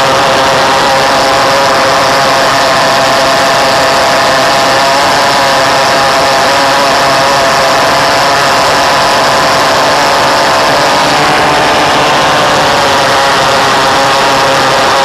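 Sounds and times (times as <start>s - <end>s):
pulse jet engine drone: 0.0s - 15.0s.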